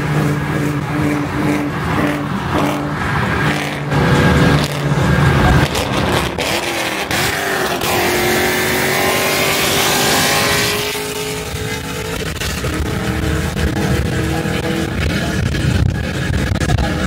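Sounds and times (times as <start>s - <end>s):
loud car exhaust at full throttle: 0.0s - 17.0s.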